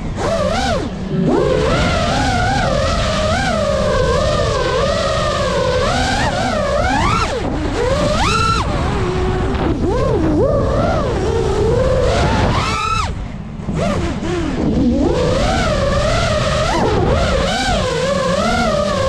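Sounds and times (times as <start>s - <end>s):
drone motors whining: 0.0s - 19.0s
prop wash and wind rushing: 0.0s - 19.0s.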